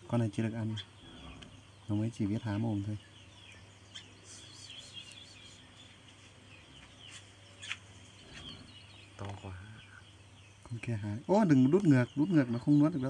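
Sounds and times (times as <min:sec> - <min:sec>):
nestling birds chirping: 0:00.0 - 0:13.0.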